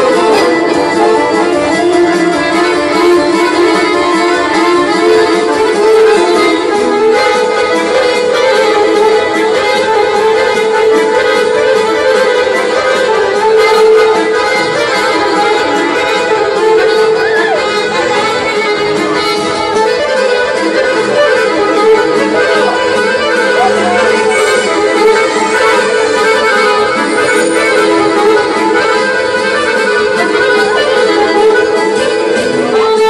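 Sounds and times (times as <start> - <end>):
accordion and keyboard folk music: 0.0 - 33.0.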